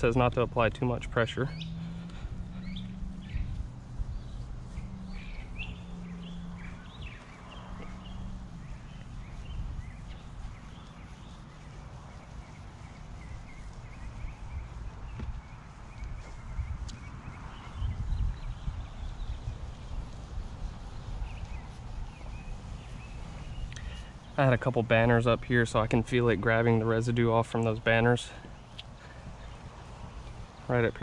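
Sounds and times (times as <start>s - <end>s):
birds chirping: 0.0s - 31.0s
low outdoor rumble: 0.0s - 31.0s
steady low hum: 0.0s - 31.0s.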